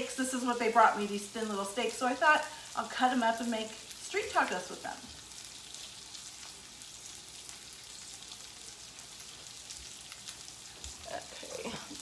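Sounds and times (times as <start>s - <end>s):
steaks sizzling in oil: 0.0s - 12.0s.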